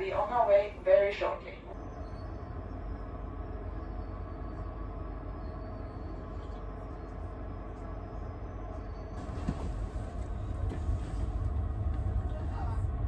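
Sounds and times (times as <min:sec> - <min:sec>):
train carriage rumble and hum: 0:00.0 - 0:13.0.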